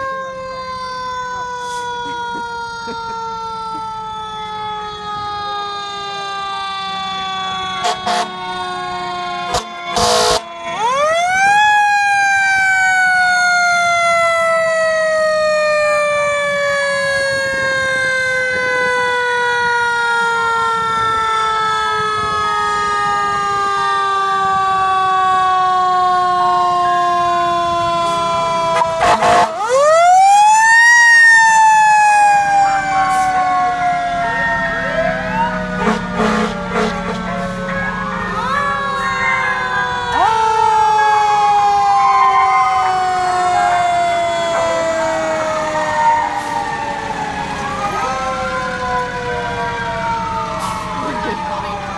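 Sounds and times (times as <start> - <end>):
fire engine siren wailing: 0.0 - 51.9.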